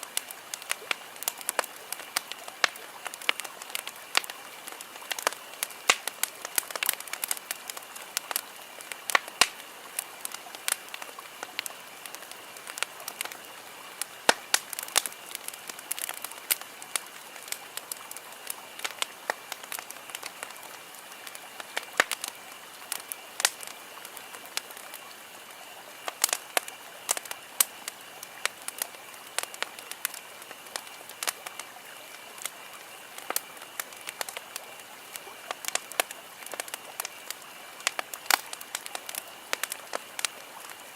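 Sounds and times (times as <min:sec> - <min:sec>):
campfire crackling and popping: 0:00.0 - 0:40.9
steady hiss: 0:00.0 - 0:40.9.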